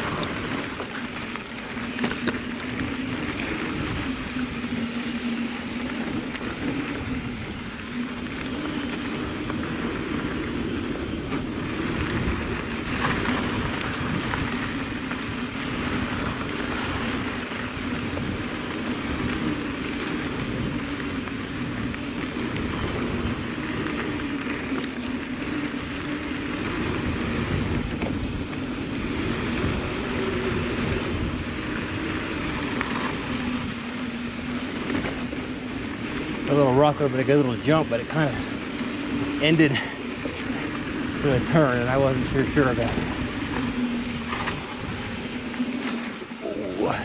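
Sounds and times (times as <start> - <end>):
bike rattles: 0.0 - 47.0
tyres rolling over dirt: 0.0 - 47.0
wind rumble on microphone: 0.0 - 47.0.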